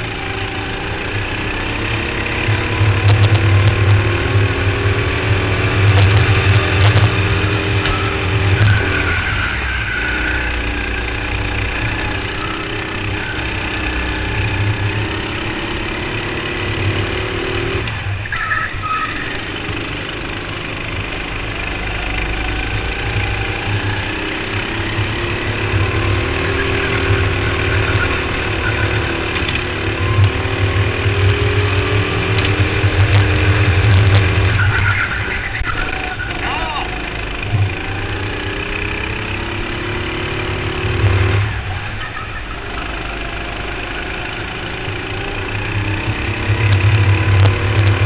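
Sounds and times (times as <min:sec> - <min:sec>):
kart engine revving: 0:00.0 - 0:48.0.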